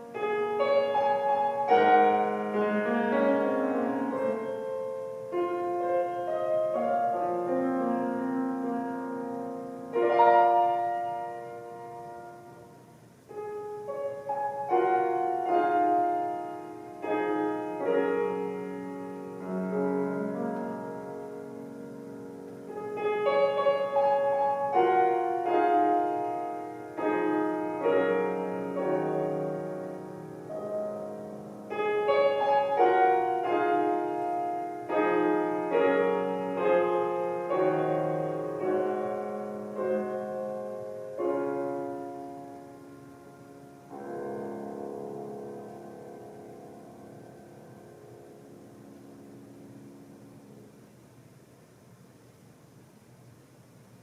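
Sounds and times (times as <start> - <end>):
solo piano piece: 0.0 - 54.0.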